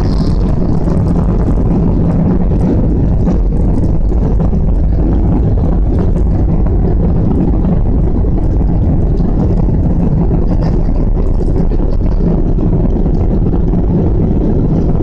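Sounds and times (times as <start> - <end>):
jet engines roaring in cabin: 0.0 - 15.0.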